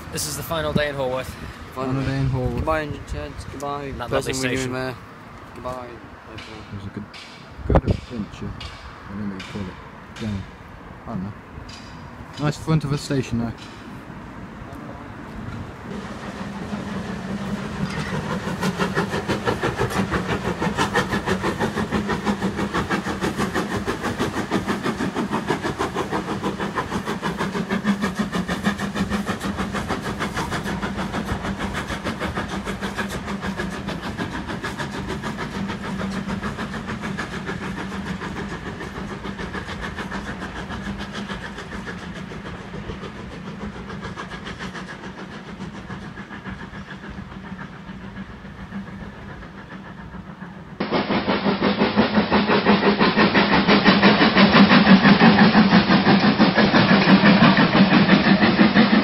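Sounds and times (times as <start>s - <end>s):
steam locomotive exhaust beating: 0.0s - 59.0s.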